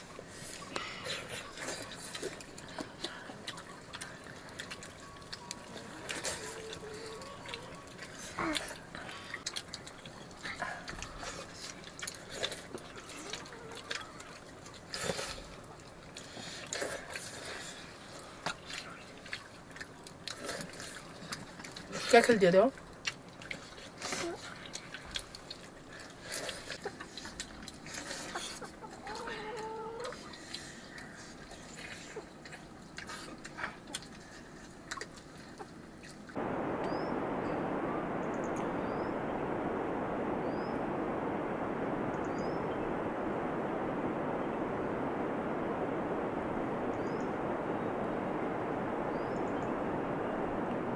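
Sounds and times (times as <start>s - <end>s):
people chewing food: 0.0s - 42.2s.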